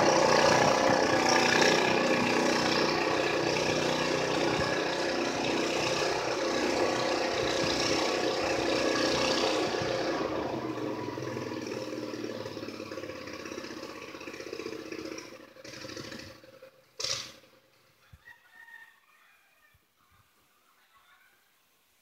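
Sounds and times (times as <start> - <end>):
lawn tractor engine running: 0.0 - 17.9.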